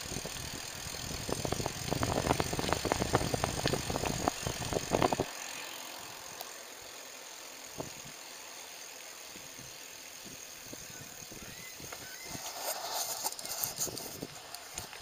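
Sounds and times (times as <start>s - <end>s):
bicycle tyres hissing on road: 0.0s - 15.0s.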